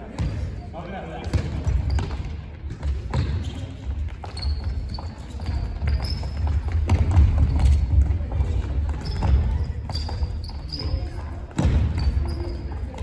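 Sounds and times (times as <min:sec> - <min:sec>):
ball bouncing on wooden floor: 0:01.2 - 0:12.4
shoes squeaking on floor: 0:01.4 - 0:13.0.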